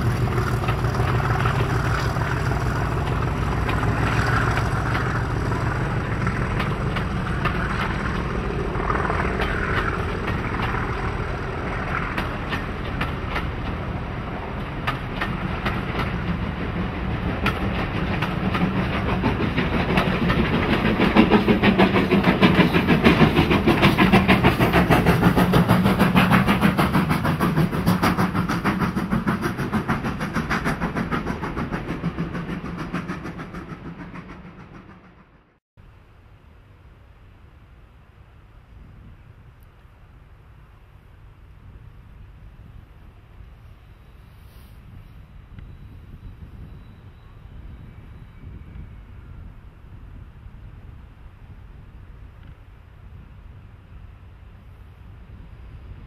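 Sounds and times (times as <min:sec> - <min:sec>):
steam train passing: 0:00.0 - 0:56.0.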